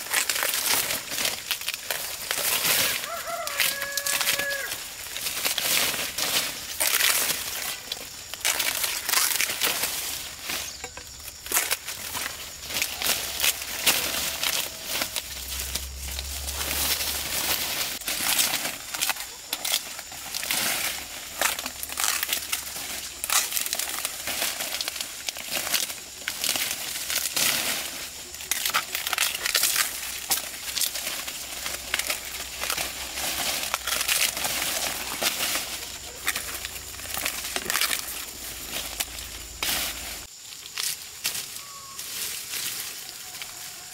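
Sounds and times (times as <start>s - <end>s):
dry leaves rustling and crackling: 0.0s - 43.9s.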